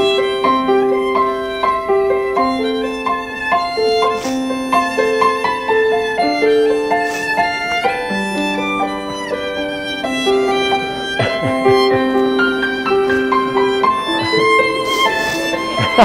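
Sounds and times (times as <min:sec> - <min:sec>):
bowed violin melody: 0:00.0 - 0:16.0
plucked string accompaniment: 0:00.0 - 0:16.0.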